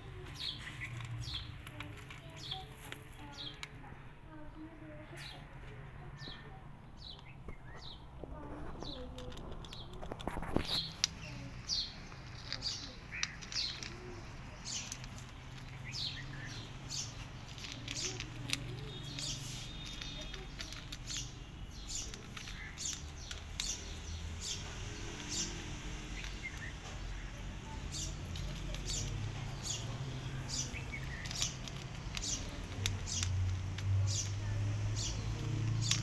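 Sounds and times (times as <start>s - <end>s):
cat crunching dry kibble: 0.0s - 3.8s, 8.6s - 36.0s
small birds chirping: 0.0s - 36.0s.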